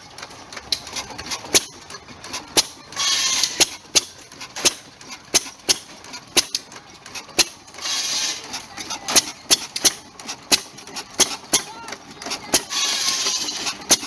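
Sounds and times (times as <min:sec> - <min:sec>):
gas engine running: 0:00.0 - 0:14.0.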